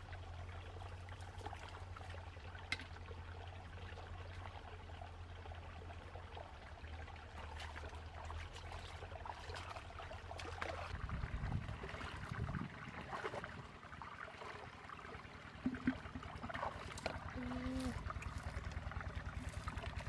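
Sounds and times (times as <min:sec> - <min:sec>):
stream trickling over rocks: 0:00.0 - 0:20.0
water splashing and sloshing: 0:00.0 - 0:20.0.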